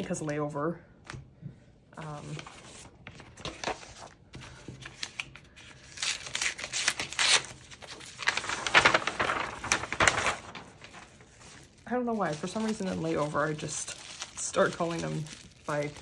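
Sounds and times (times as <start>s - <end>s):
packaging rustling and crinkling: 2.1s - 16.0s.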